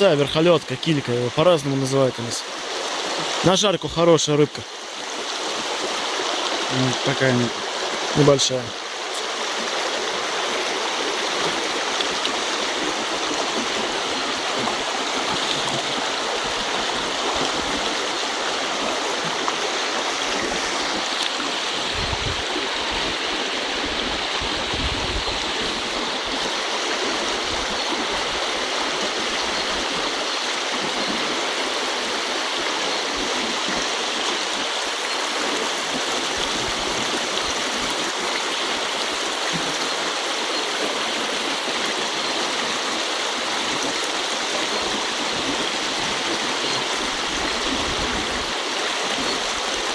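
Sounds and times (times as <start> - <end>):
river water over stones: 0.0 - 49.9.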